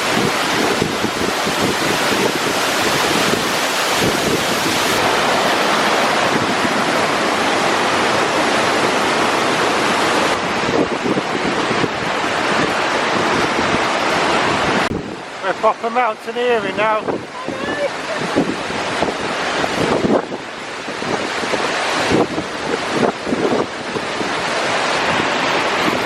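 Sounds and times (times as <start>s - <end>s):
wind buffeting microphone: 0.0s - 15.6s, 16.6s - 26.0s
waterfall rushing: 0.0s - 26.0s.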